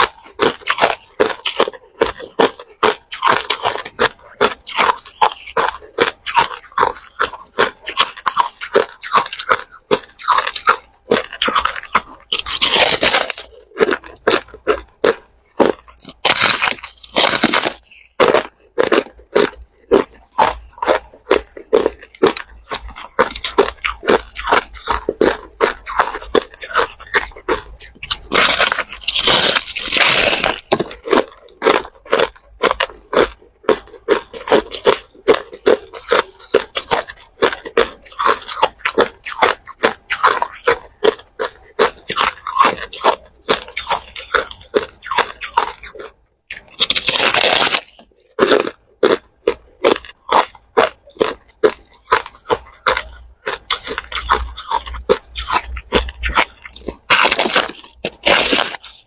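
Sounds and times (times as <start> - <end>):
ice cubes being chewed: 0.0 - 59.0.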